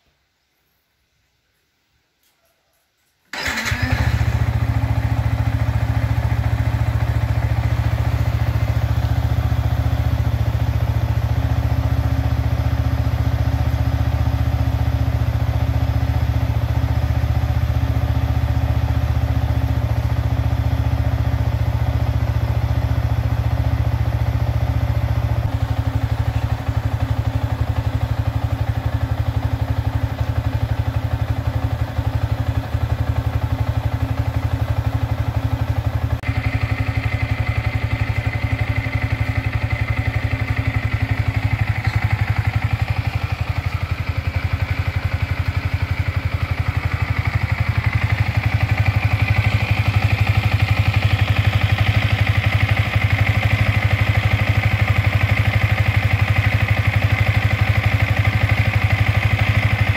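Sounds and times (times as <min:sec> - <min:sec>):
motorcycle engine starting and idling: 0:03.3 - 0:59.9.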